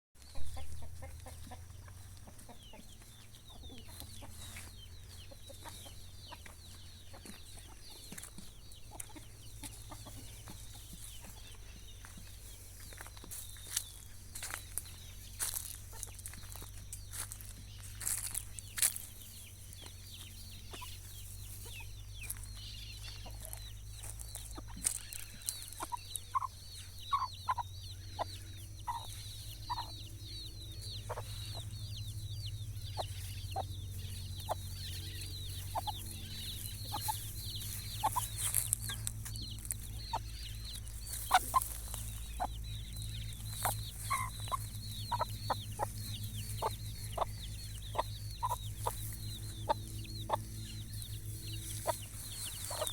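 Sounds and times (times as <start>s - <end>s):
chickens clucking: 0.2s - 52.9s
low steady hum: 0.3s - 52.9s.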